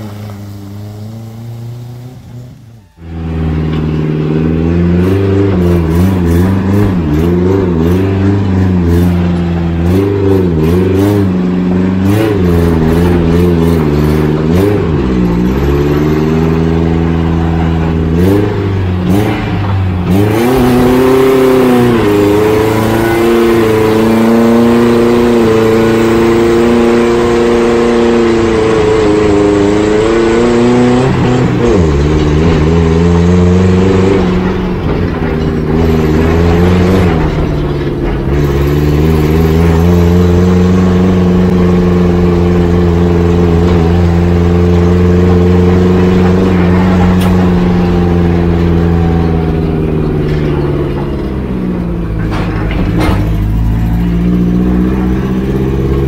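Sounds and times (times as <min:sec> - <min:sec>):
car engine under load: 0:00.0 - 0:56.0.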